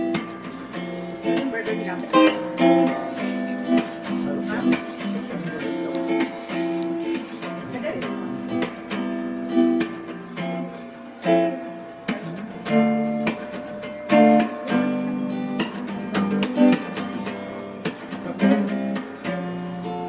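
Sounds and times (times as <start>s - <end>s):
acoustic guitar strummed and plucked: 0.0s - 20.0s.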